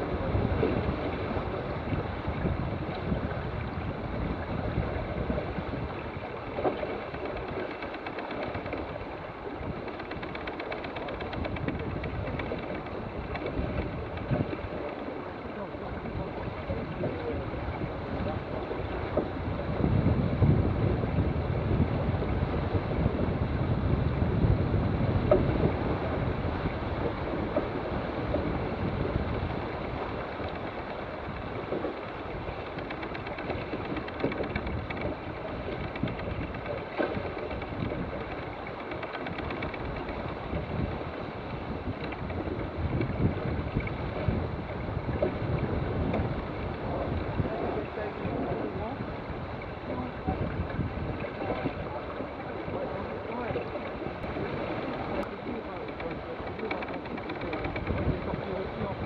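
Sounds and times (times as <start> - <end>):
water rushing along hull: 0.0 - 59.0
wind buffeting microphone: 0.0 - 59.0.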